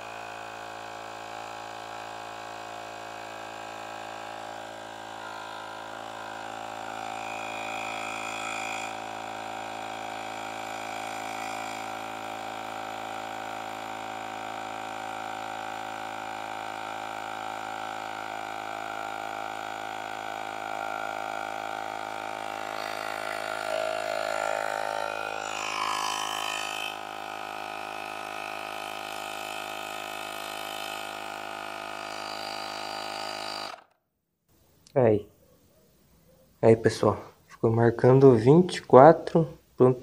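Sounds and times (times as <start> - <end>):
electric compressor droning: 0.0 - 34.0.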